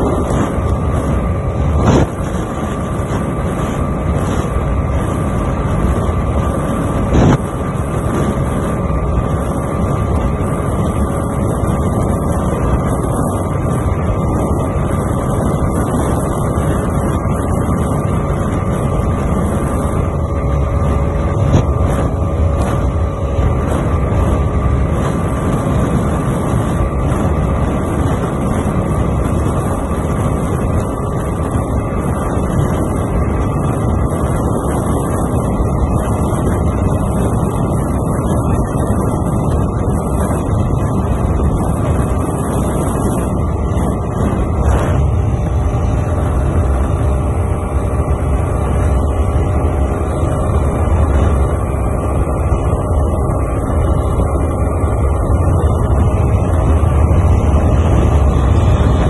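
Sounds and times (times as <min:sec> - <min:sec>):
motorcycle engine at high revs: 0:00.0 - 0:59.0
wind rushing over microphone: 0:00.0 - 0:59.0.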